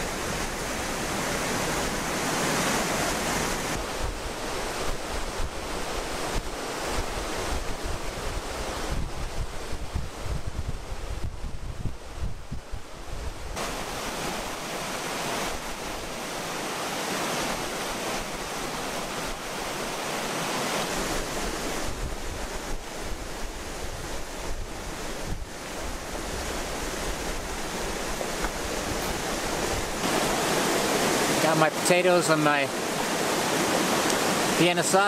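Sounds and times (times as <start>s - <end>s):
wind buffeting microphone: 0.0s - 31.4s.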